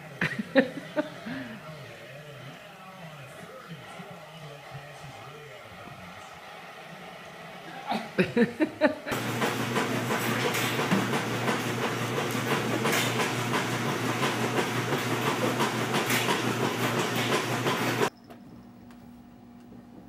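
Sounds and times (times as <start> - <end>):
treadmill motor whirring: 0.0 - 20.0.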